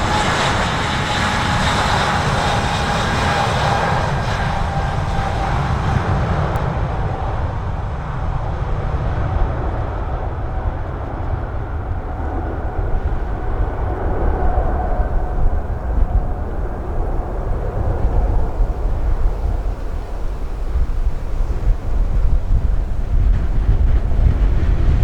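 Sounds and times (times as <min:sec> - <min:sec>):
jet engines rumbling: 0:00.0 - 0:25.0
wind buffeting microphone: 0:00.0 - 0:25.0.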